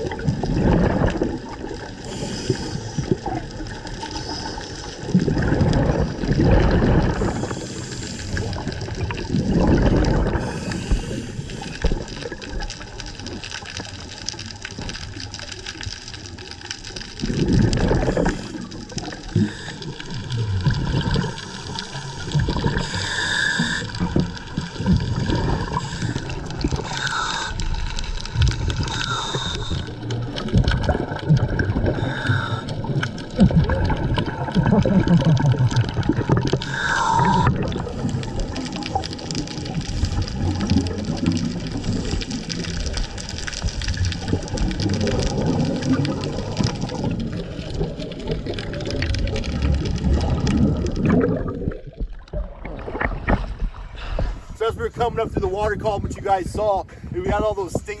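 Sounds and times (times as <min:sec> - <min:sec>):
underwater exhalation bubbles gurgling: 0:00.0 - 0:54.6
steady water noise: 0:00.0 - 0:58.0.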